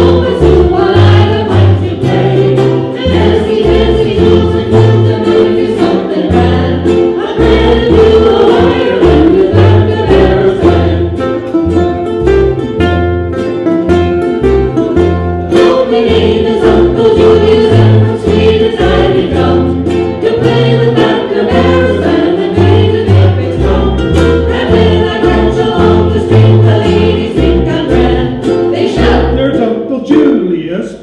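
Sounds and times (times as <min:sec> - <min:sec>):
walking bass line: 0:00.0 - 0:29.7
ukuleles strumming and plucking: 0:00.0 - 0:30.5.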